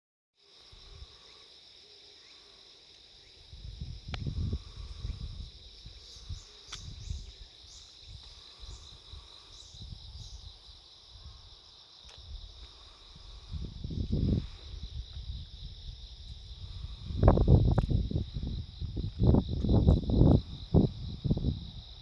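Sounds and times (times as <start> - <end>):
crickets trilling: 0.4 - 22.0
cicada rising call: 0.5 - 22.0.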